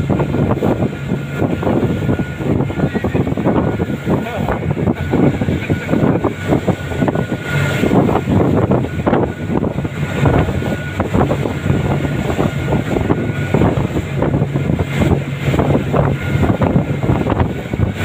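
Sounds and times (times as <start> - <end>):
outboard motors at high speed: 0.0 - 18.0
water rushing past hull: 0.0 - 18.0
wind buffeting microphone: 0.0 - 18.0.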